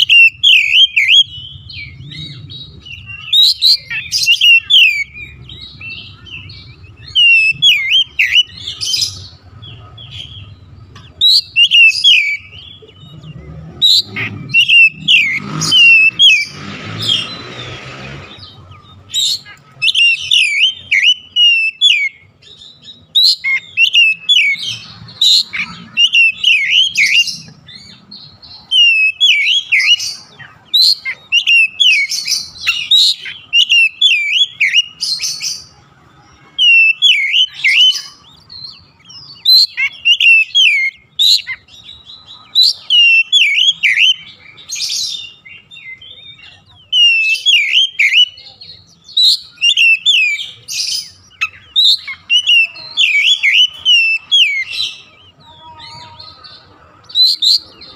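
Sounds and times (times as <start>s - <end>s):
bird singing whistled notes: 0.0s - 35.8s, 36.6s - 55.4s.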